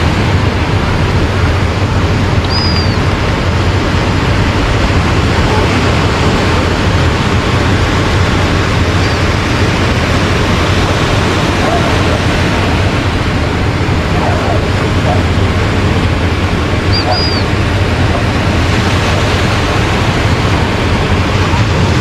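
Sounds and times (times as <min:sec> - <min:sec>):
ocean surf: 0:00.0 - 0:22.0
wind on microphone: 0:00.0 - 0:22.0.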